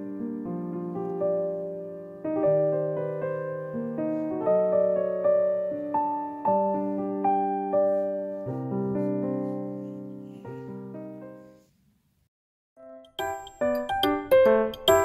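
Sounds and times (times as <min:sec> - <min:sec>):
soft piano chords: 0:00.0 - 0:11.7, 0:12.8 - 0:15.0.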